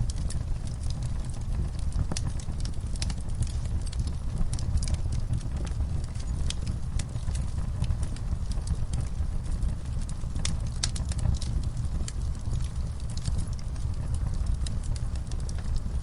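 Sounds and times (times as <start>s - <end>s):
fire crackling and popping: 0.0s - 16.0s
fire rumbling in fireplace: 0.0s - 16.0s.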